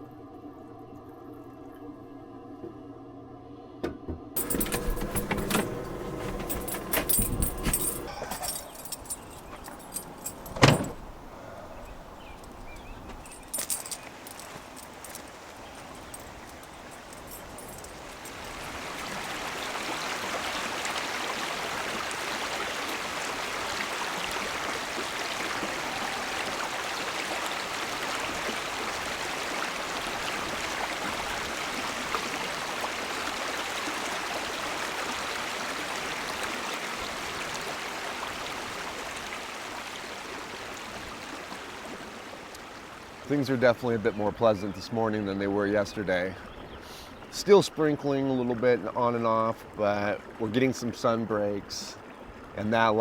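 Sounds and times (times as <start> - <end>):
creek water rushing: 4.4 - 53.0.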